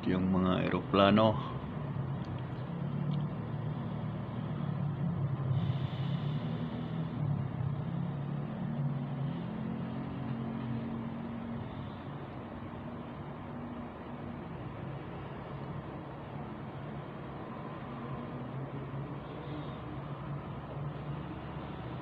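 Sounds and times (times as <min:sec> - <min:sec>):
road traffic rumble through window: 0:00.0 - 0:22.0.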